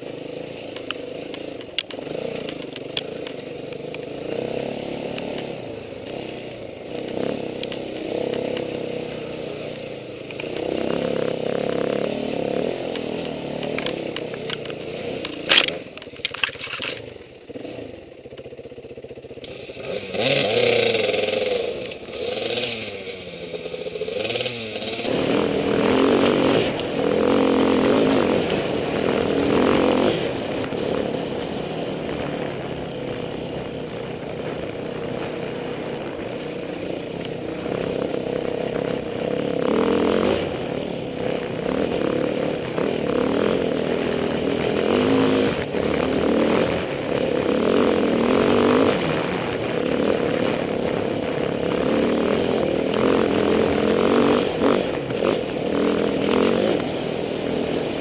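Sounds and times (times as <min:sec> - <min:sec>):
trail bike engine revving: 0:00.0 - 0:58.0.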